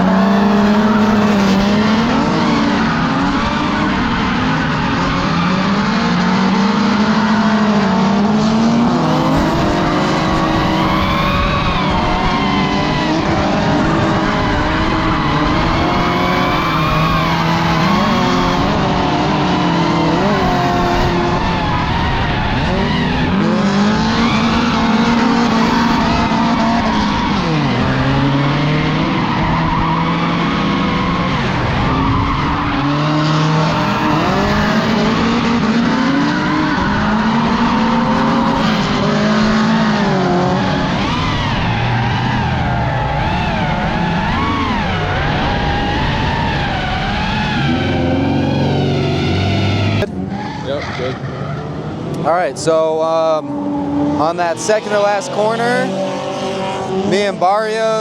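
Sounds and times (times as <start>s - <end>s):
car engines revving hard: 0.0s - 58.0s
tyres skidding: 0.0s - 58.0s.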